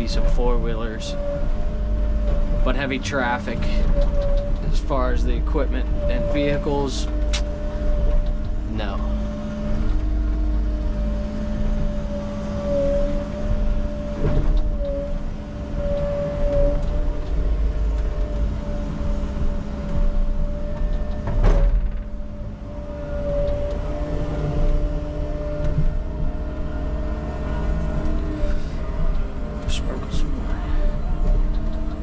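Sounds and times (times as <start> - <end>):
digging machine engine running: 0.0 - 32.0
hydraulic whine: 0.0 - 32.0.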